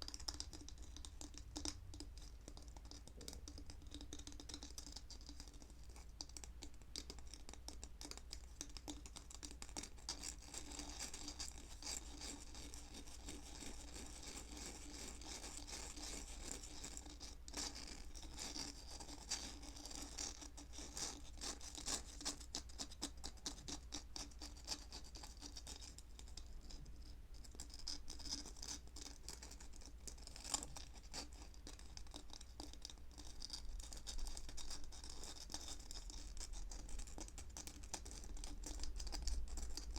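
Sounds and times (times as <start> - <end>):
close-miked scratching: 0.0 - 39.9.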